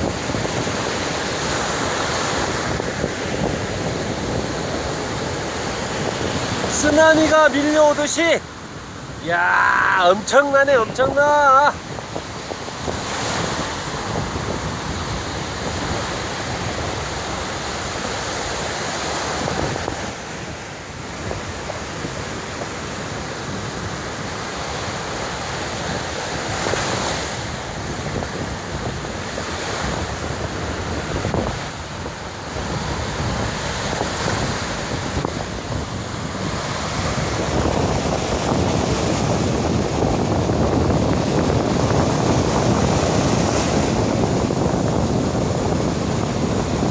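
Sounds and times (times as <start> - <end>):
ocean waves breaking on beach: 0.0 - 46.9
wind buffeting microphone: 0.0 - 46.9.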